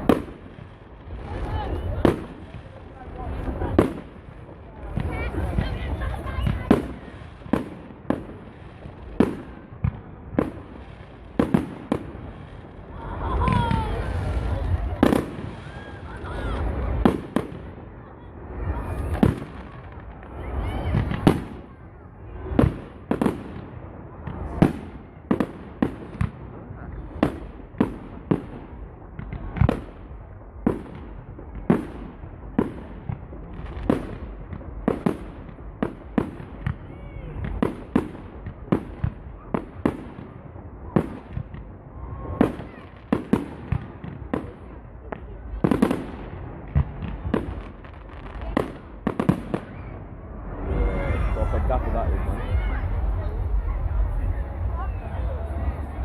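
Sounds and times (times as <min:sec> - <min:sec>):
fireworks bangs with echo: 0:00.0 - 0:56.0.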